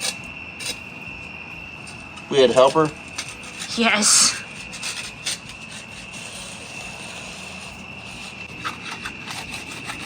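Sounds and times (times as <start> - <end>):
steel tool scraping concrete: 0.0 - 0.9, 2.6 - 10.0.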